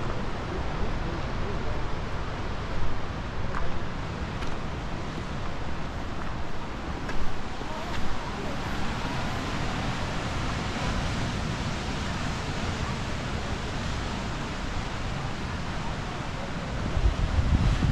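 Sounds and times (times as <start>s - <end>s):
wind buffeting microphone: 0.0s - 17.9s
surf breaking on rocks: 2.2s - 17.9s.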